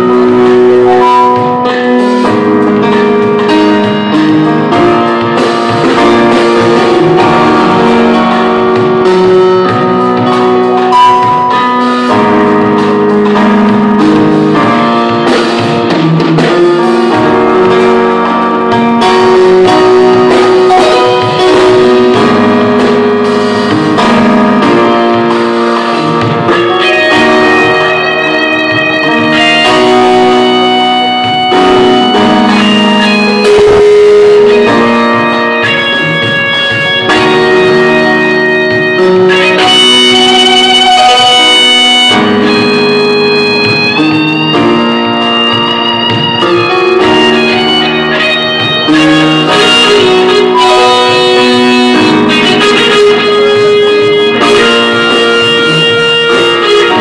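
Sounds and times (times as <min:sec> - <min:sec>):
instrumental music with held chords: 0:00.0 - 0:57.0.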